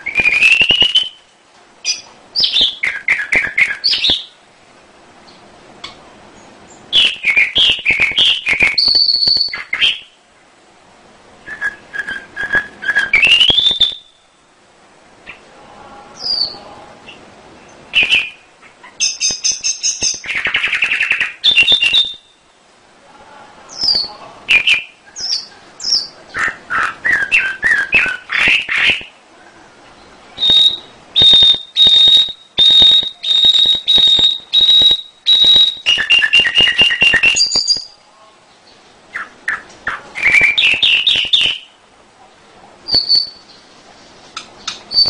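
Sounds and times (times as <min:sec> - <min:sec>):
canary singing: 0:00.0 - 0:04.4, 0:05.3 - 0:10.2, 0:11.4 - 0:14.6, 0:15.2 - 0:22.7, 0:23.7 - 0:29.2, 0:30.0 - 0:41.8, 0:42.9 - 0:43.7, 0:44.3 - 0:45.0.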